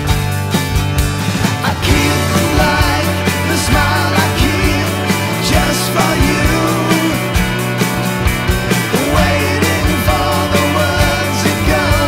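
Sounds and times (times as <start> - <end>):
rock song playing: 0.0 - 12.0.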